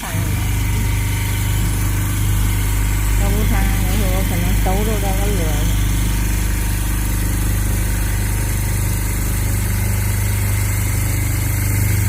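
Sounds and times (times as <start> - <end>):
stitching machine running: 0.0 - 12.0.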